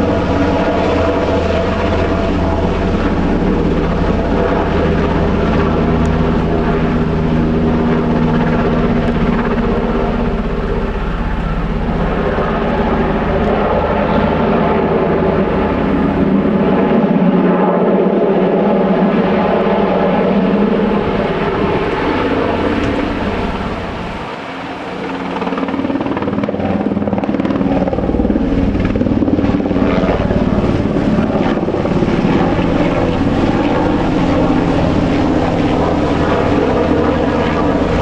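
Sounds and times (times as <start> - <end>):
helicopter flying overhead: 0.0 - 38.0.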